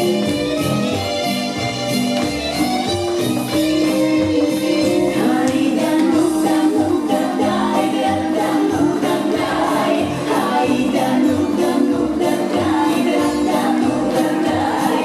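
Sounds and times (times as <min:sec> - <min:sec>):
song with singing and beat: 0:00.0 - 0:15.0.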